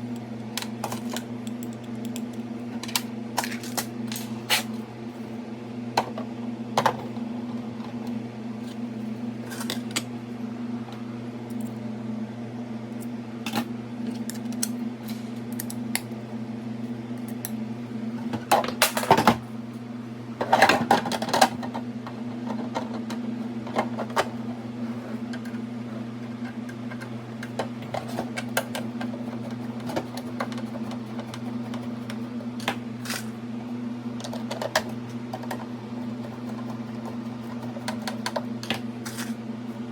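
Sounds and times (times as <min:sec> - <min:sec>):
low electrical fan hum: 0:00.0 - 0:39.9.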